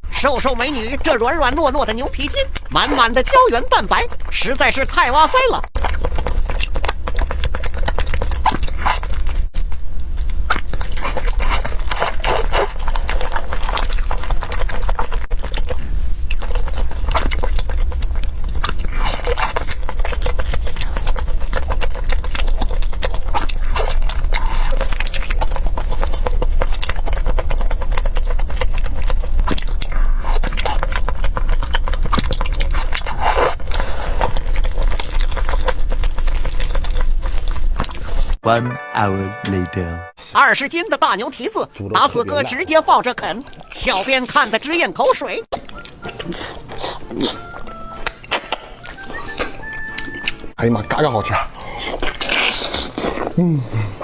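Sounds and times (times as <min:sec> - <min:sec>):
person chewing wetly: 0:00.2 - 0:38.4, 0:42.4 - 0:54.0.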